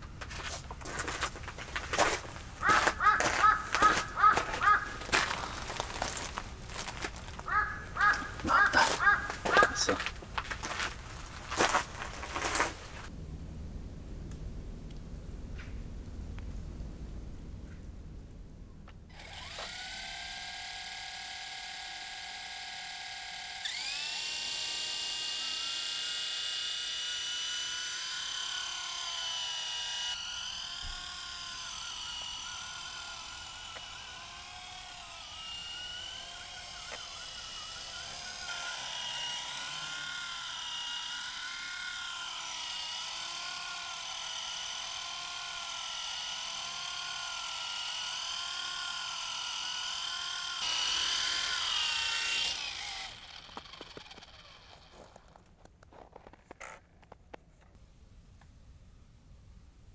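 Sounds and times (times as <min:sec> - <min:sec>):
rc helicopter motor whine: 0:00.0 - 0:13.1, 0:19.1 - 0:57.7.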